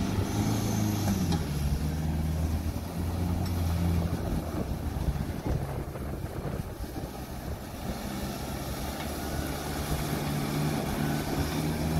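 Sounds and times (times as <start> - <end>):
vehicle engine running at low revs: 0.0 - 11.9.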